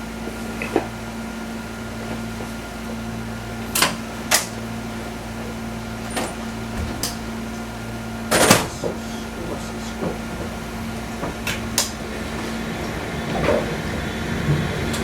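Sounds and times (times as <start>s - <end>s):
electrical hum in train cab: 0.0s - 15.0s.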